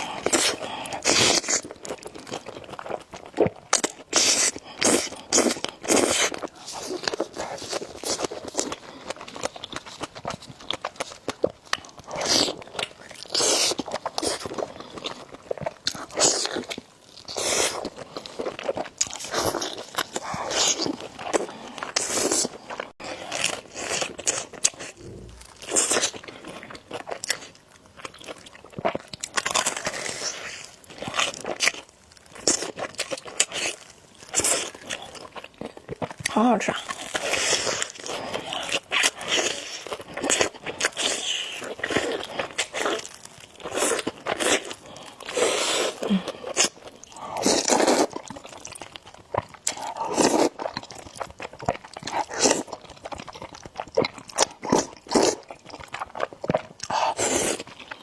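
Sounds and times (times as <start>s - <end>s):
chewing noodles: 0.0s - 58.0s.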